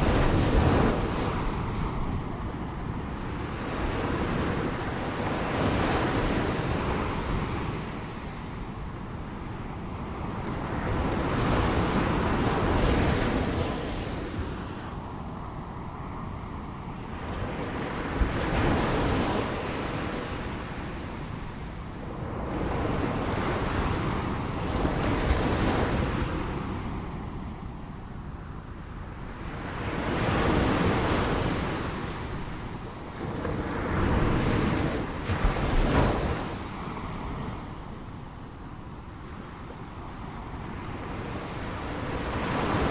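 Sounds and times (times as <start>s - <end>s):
wind noise on microphone: 0.0s - 42.9s.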